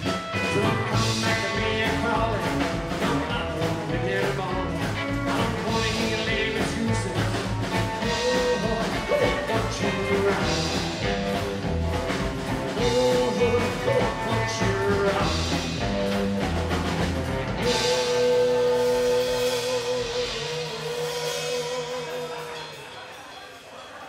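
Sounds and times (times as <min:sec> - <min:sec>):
man singing: 0:00.0 - 0:11.6, 0:12.6 - 0:16.5, 0:17.5 - 0:23.1
rockabilly band playing: 0:00.0 - 0:24.0.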